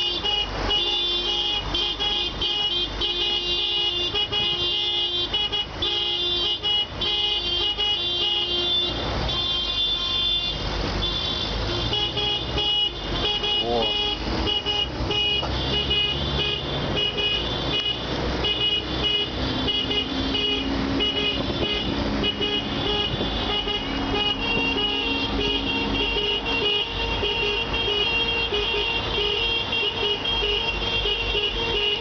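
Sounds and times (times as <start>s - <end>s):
car horns honking: 0.0s - 32.0s
traffic noise: 0.0s - 32.0s.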